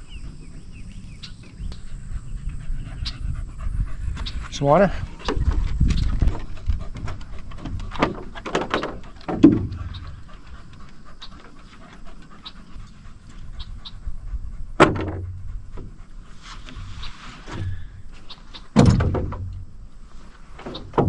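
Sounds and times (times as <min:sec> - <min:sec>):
dog panting: 0:00.0 - 0:18.7.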